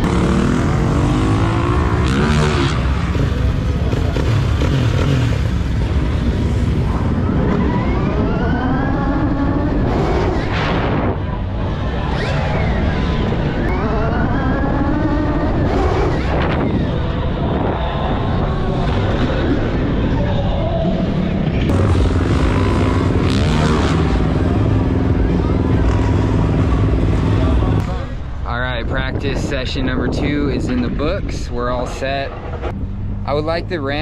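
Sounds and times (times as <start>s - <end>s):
wind rumble on microphone: 0.0s - 34.0s.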